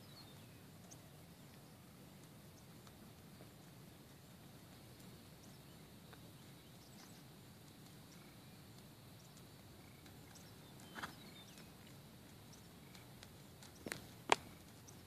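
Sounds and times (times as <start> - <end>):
soft irregular ticks: 0.0 - 15.0.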